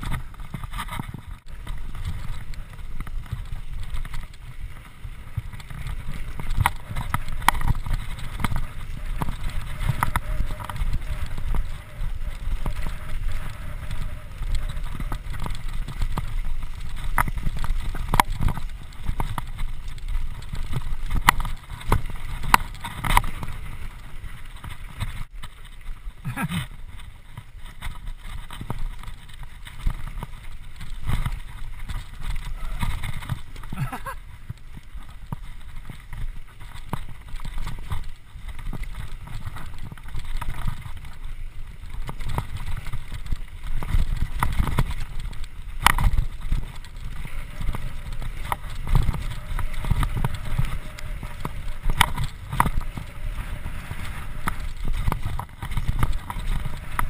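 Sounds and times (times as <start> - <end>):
bike knocking and rattling: 0.0 - 57.0
wind and tyres rumble: 0.0 - 57.0.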